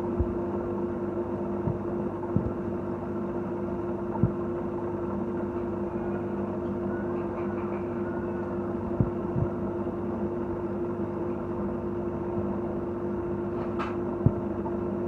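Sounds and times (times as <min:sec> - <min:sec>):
aquarium pump humming: 0:00.0 - 0:15.0.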